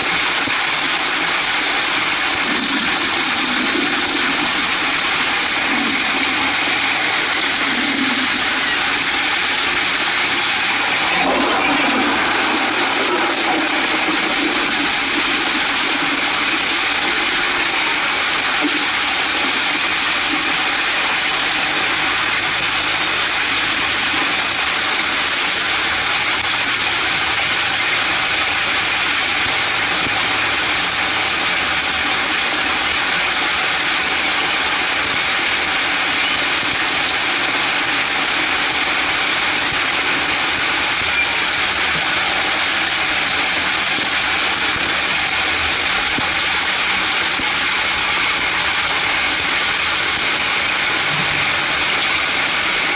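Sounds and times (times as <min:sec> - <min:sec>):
heavy rain drumming on vehicle roof: 0:00.0 - 0:52.9.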